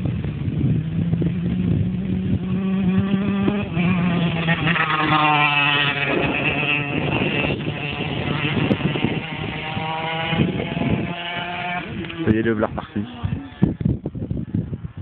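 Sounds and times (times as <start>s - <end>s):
motocross bike engine running: 0.0s - 14.9s.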